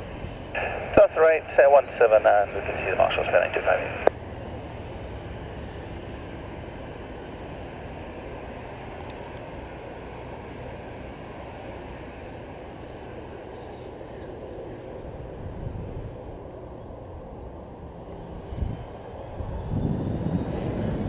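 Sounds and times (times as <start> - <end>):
jet engines idling: 0.0 - 21.0.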